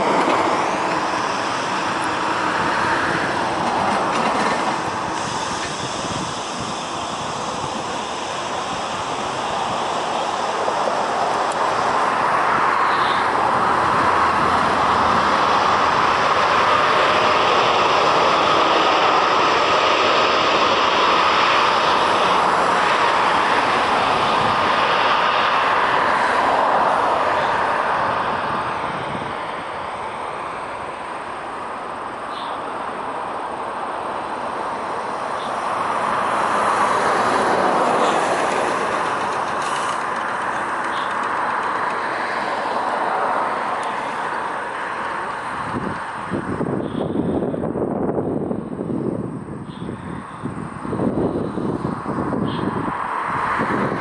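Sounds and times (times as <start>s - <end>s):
jet engines at takeoff thrust: 0.0s - 54.0s.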